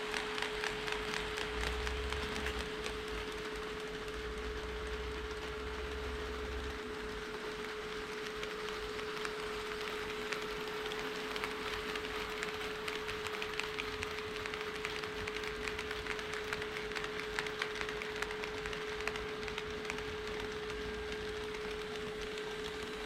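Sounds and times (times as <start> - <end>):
model train wheels clicking on track: 0.0 - 23.0.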